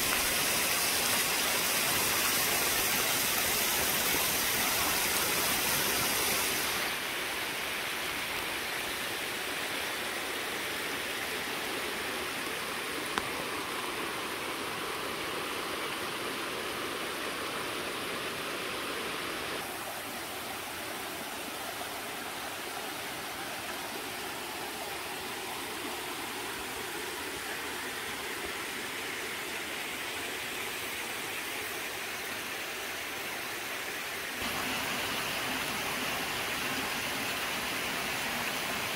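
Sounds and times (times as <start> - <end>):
stream rushing over stones: 0.0 - 38.9.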